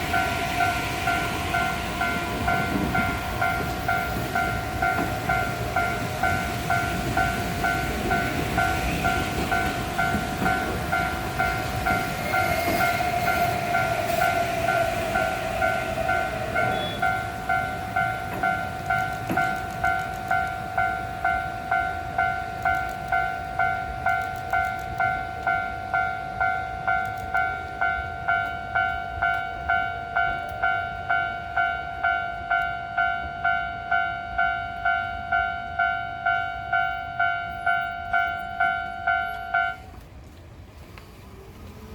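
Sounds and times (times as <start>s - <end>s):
level-crossing alarm dinging: 0.0s - 39.9s
electric train rumbling past: 0.0s - 41.9s.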